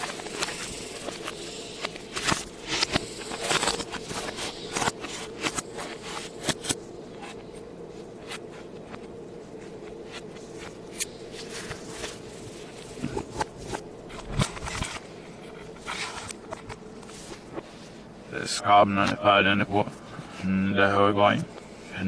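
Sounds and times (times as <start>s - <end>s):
plastic and cardboard rustling: 0.0s - 18.0s
faint steady hum: 0.0s - 22.0s.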